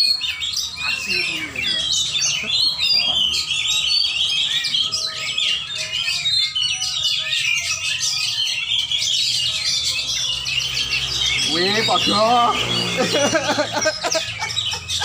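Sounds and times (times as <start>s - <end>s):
birds singing: 0.0s - 15.0s.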